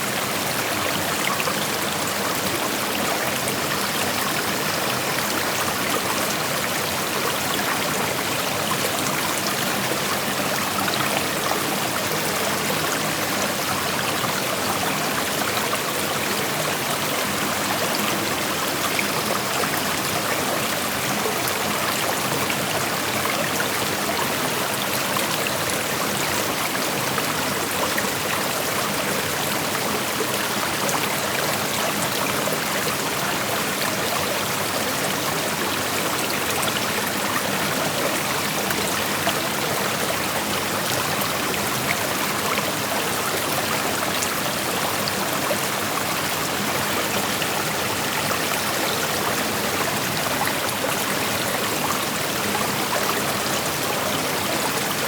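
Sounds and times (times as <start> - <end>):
creek water babbling over rocks: 0.0 - 55.0.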